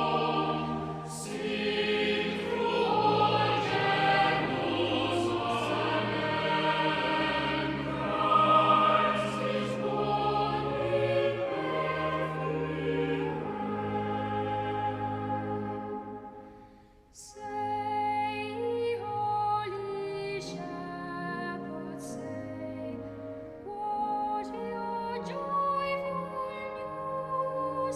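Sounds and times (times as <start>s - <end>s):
choral singing: 0.0s - 27.9s.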